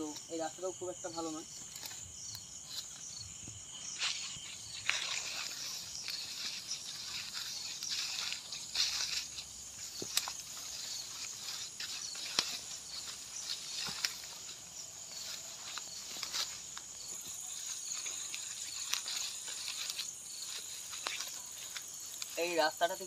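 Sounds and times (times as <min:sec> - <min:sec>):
night insects chirring: 0:00.0 - 0:23.0
footsteps through grass: 0:01.2 - 0:23.0.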